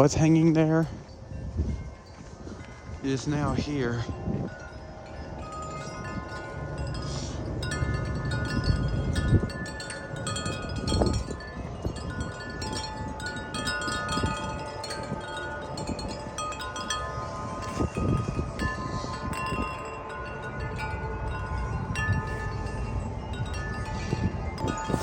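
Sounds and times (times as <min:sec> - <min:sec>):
low rumble of wind gusts: 0:00.0 - 0:25.0
wind chimes ringing: 0:00.0 - 0:25.0.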